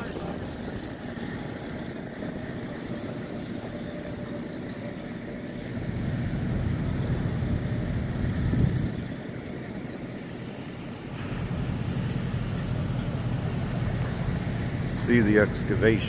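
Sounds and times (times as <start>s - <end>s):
faint steady whine: 0.0s - 16.0s
heavy equipment engine rumble: 0.0s - 16.0s.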